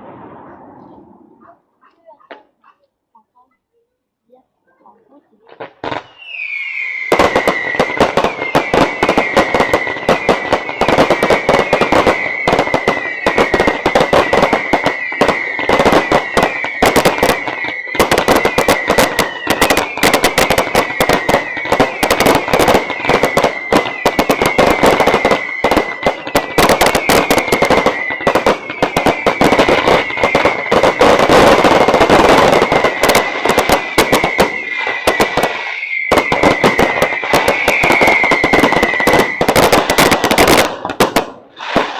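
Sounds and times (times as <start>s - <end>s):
high descending firework whistle: 0.0s - 1.4s, 5.9s - 40.6s
fireworks crackling bangs: 0.0s - 2.6s, 5.4s - 41.9s.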